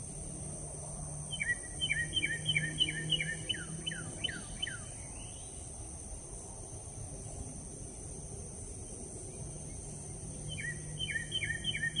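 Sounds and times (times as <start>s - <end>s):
insect drone: 0.0s - 12.0s.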